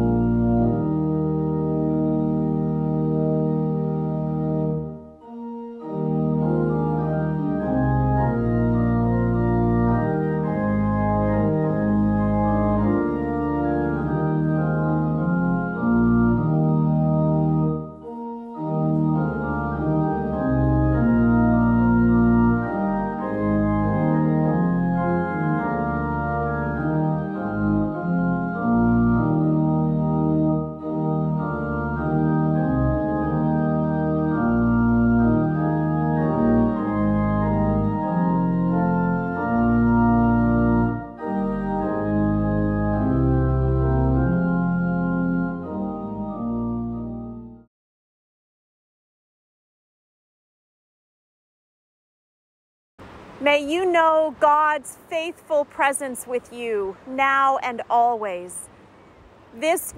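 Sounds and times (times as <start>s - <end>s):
organ chords: 0.0s - 47.7s, 53.0s - 59.9s.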